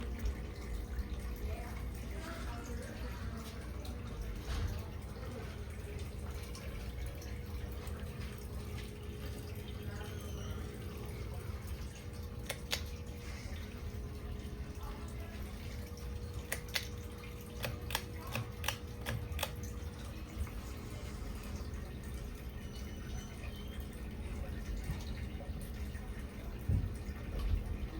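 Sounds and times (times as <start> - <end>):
ceiling fan motor humming: 0.0 - 27.9.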